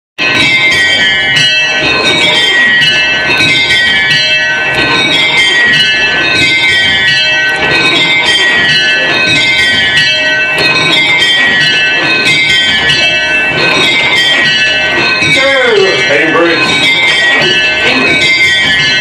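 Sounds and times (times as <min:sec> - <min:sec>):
small bells change ringing: 0:00.2 - 0:19.0.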